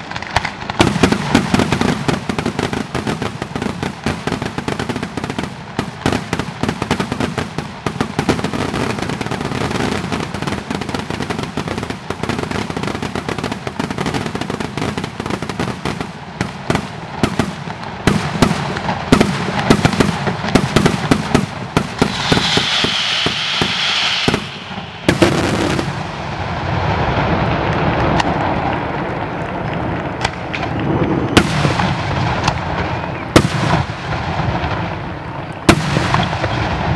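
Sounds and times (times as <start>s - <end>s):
fireworks bangs and crackles: 0.0s - 36.9s
fireworks rumble: 0.0s - 36.9s.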